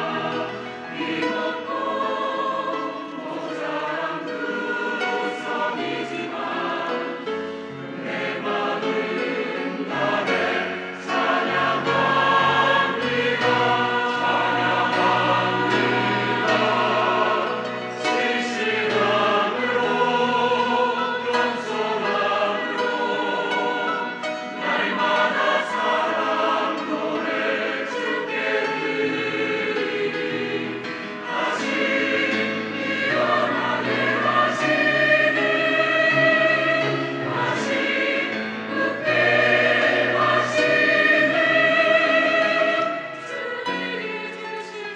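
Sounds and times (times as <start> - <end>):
choir singing in parts: 0.0 - 44.9
low musical accompaniment: 0.0 - 44.9.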